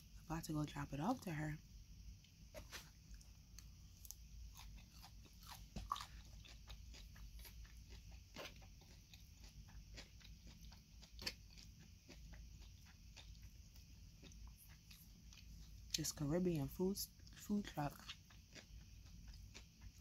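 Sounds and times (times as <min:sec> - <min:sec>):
person chewing crunchy salad: 0:02.5 - 0:20.0.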